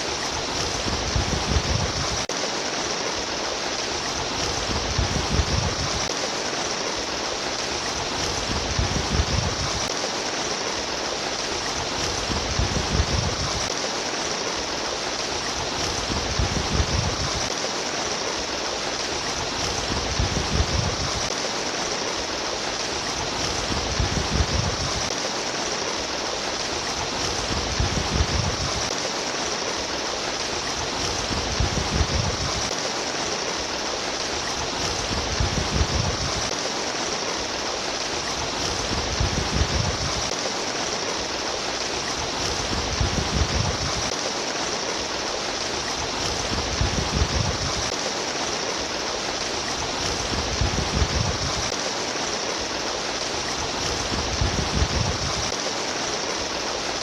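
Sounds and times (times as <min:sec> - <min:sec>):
babbling stream water running: 0:00.0 - 0:57.0.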